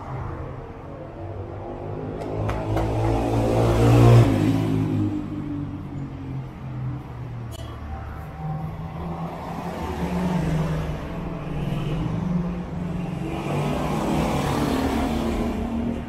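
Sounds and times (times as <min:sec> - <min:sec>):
vehicle passing: 0:00.0 - 0:16.0.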